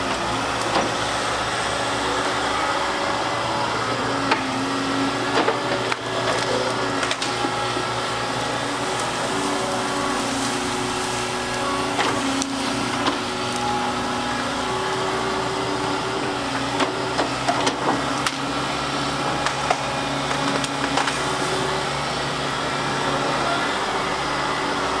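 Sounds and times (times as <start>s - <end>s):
excavator engine and hydraulics: 0.0s - 25.0s.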